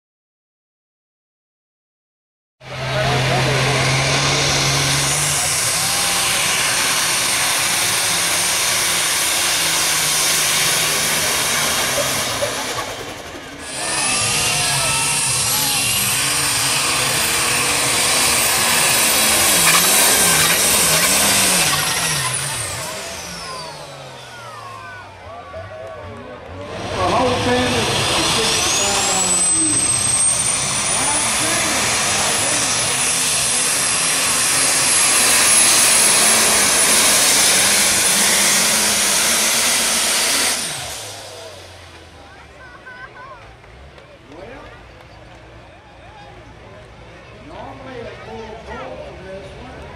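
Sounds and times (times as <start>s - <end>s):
tractor engine at full power: 2.6s - 49.9s.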